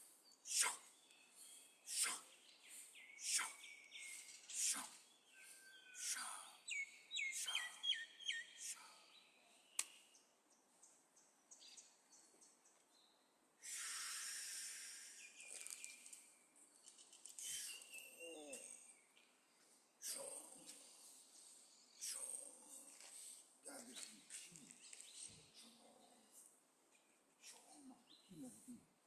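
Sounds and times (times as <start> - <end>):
birds chirping: 0.0 - 28.8.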